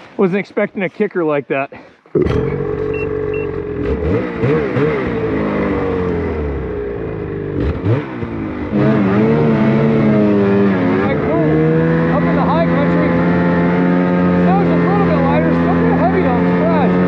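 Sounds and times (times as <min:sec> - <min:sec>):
snowmobile engine revving: 0:02.1 - 0:17.0.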